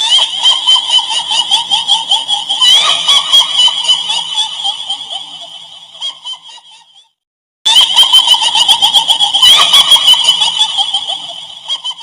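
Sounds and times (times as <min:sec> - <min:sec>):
shrill wavering cackle: 0:00.0 - 0:12.0.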